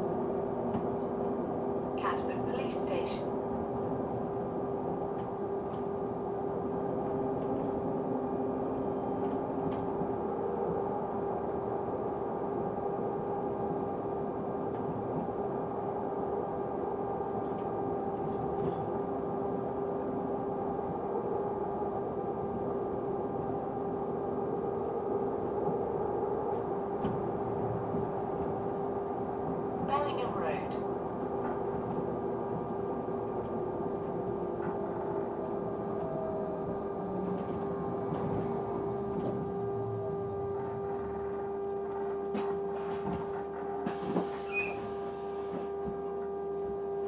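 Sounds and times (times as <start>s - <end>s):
steady bus whine: 0.0s - 47.0s.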